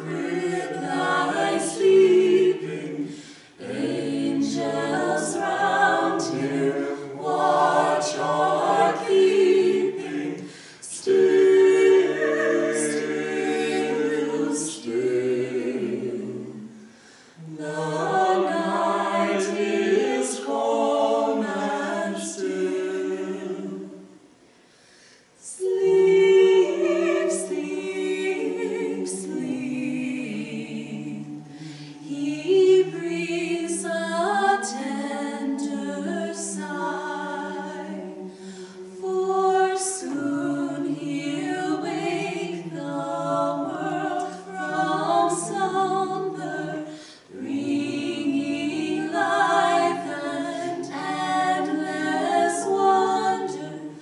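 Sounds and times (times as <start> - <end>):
vocal quartet singing a cappella: 0.0 - 54.0.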